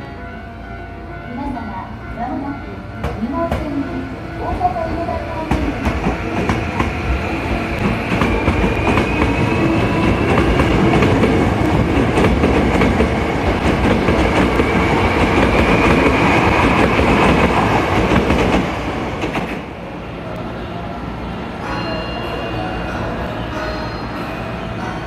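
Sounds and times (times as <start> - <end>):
train cars rumbling: 0.0 - 25.0.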